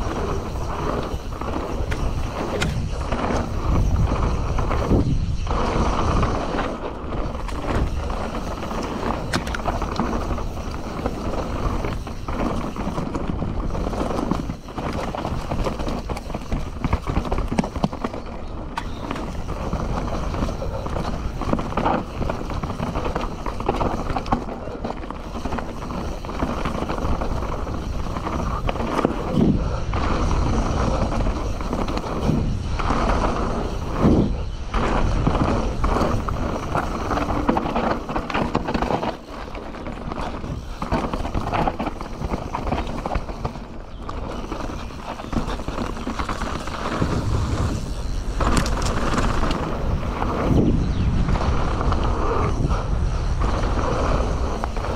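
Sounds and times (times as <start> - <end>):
bike clattering over bumps: 0.0 - 54.9
tyres rolling on dirt: 0.0 - 54.9.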